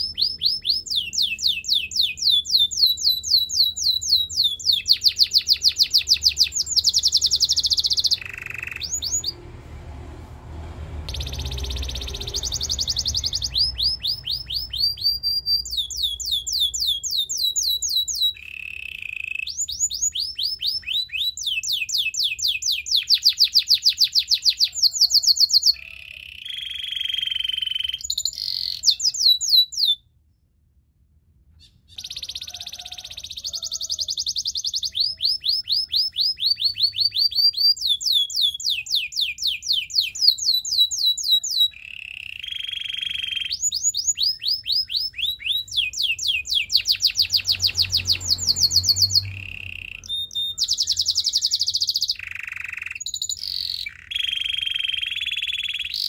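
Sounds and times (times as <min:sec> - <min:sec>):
canary singing trills: 0:00.0 - 0:09.4, 0:11.1 - 0:30.4, 0:31.6 - 0:56.0.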